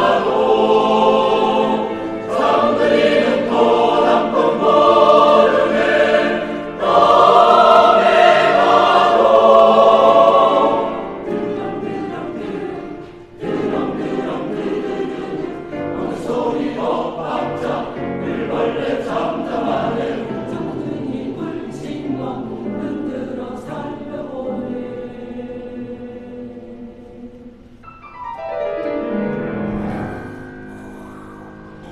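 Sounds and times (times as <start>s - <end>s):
choir singing: 0.0s - 27.8s.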